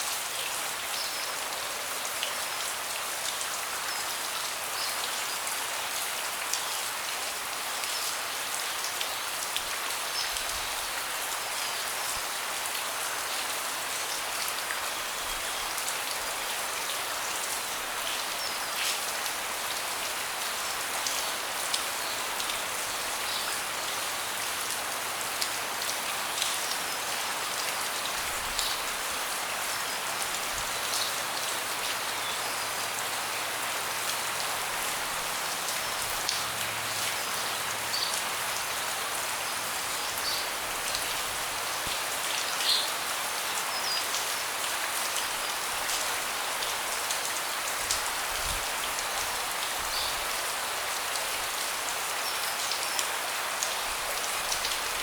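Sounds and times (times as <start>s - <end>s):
rain falling on a deck: 0.0s - 55.0s.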